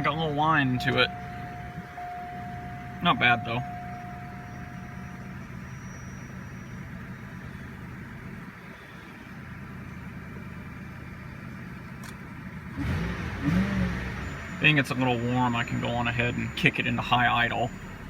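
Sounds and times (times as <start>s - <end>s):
car engine idling: 0.0s - 18.0s
engine whine: 0.0s - 18.0s.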